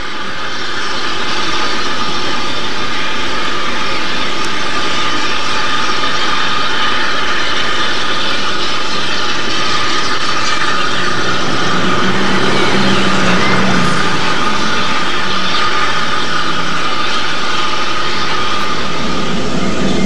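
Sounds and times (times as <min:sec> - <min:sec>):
low droning tone: 0:00.0 - 0:20.0
train rushing: 0:00.0 - 0:20.0.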